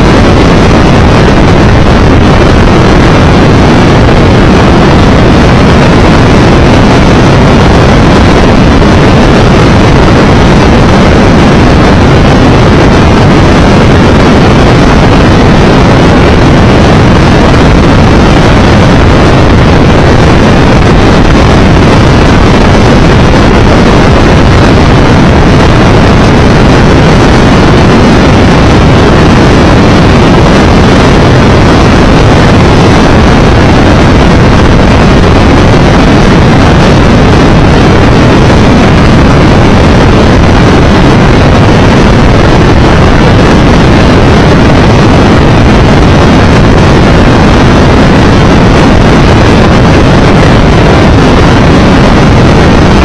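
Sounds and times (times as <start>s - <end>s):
motorcycle engine and road noise: 0.0s - 53.0s
wind rushing over microphone: 0.0s - 53.0s.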